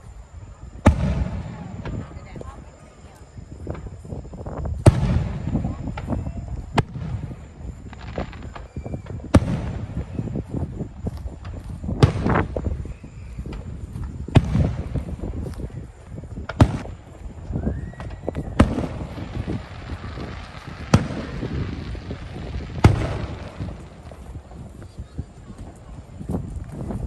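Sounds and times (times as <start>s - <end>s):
fireworks bangs with rumbling tail: 0.6s - 27.0s.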